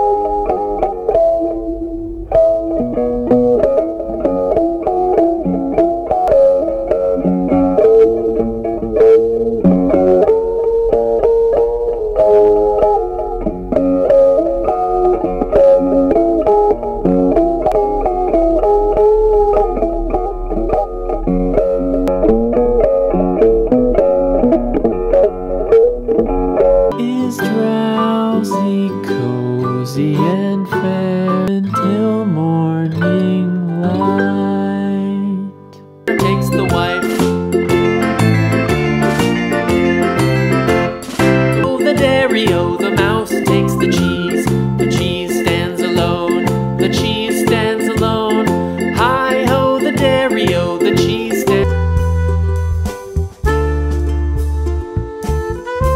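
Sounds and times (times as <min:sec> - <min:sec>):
plucked string instrumental music: 0:00.0 - 0:55.9.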